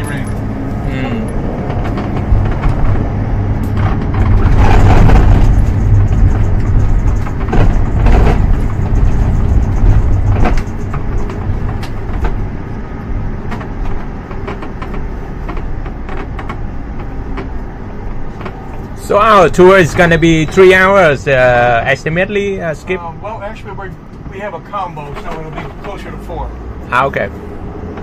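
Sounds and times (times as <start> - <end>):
knocks and rattles: 0.0 - 20.6, 24.1 - 26.4
vehicle road rumble: 0.0 - 28.0.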